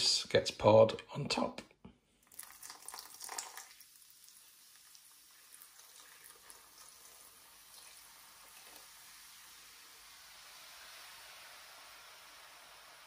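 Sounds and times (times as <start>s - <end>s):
liquid pouring and splashing: 2.2s - 13.0s.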